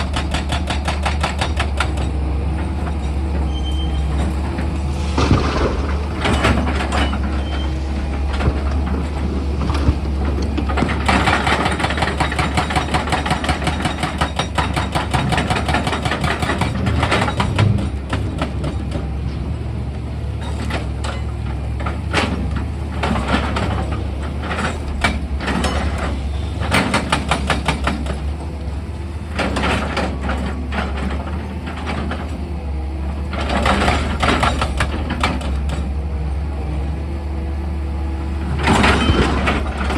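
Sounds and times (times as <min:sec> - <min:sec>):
excavator diesel engine humming: 0:00.0 - 0:39.9.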